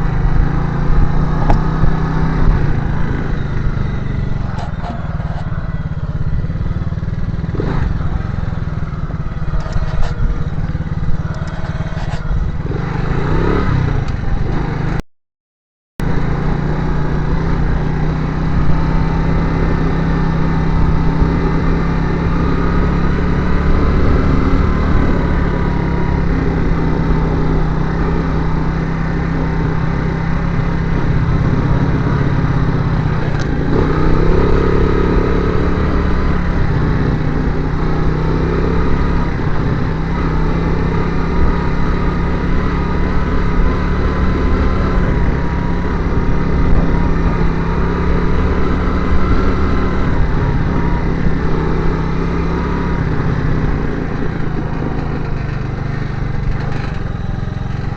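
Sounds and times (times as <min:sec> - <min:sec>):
motorcycle engine running: 0:00.0 - 0:15.0, 0:16.0 - 0:57.9.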